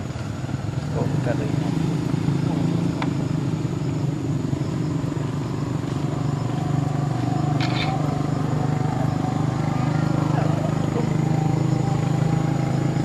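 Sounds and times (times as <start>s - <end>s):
car engine idling: 2.2s - 13.0s.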